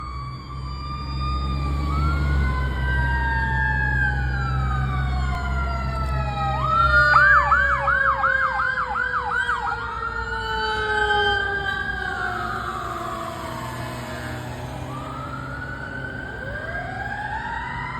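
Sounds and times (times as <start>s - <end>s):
truck engine rumble: 0.0s - 8.3s, 9.3s - 17.9s
fast siren yelp: 0.0s - 17.9s
second siren wail: 0.0s - 17.9s
siren wailing: 0.0s - 17.9s.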